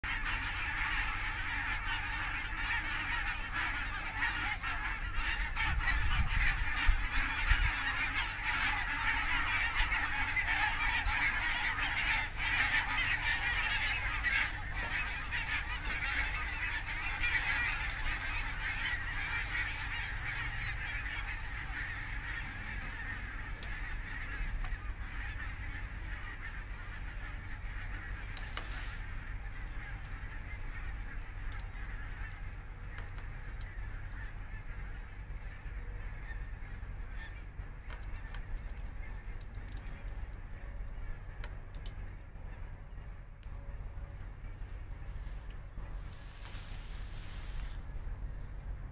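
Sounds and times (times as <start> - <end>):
geese honking: 0.0 - 48.9.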